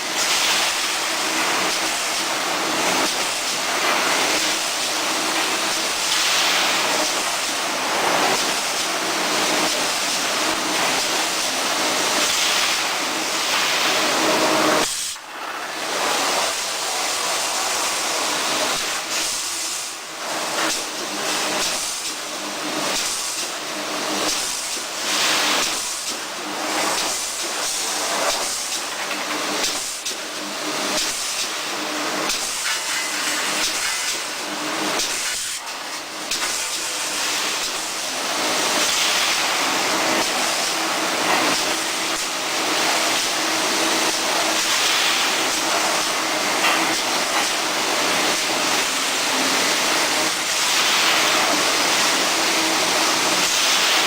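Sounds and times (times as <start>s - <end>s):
welding machine hissing: 0.0s - 54.0s.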